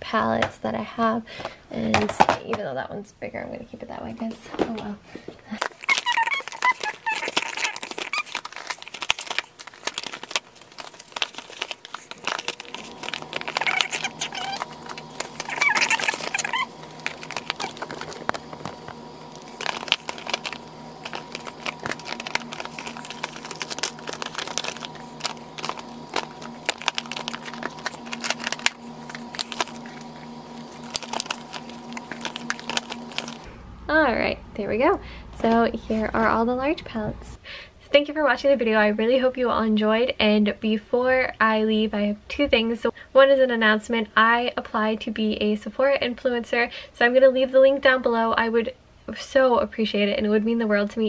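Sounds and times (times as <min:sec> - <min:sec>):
steady low hum: 0:00.0 - 0:49.5.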